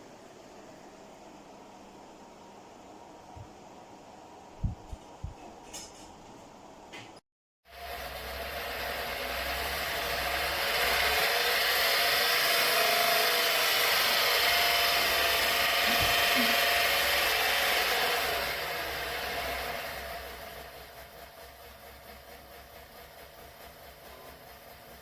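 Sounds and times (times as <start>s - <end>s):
electric fan air rush: 0.0s - 6.1s, 7.7s - 25.0s
faint motor hum: 0.0s - 25.0s.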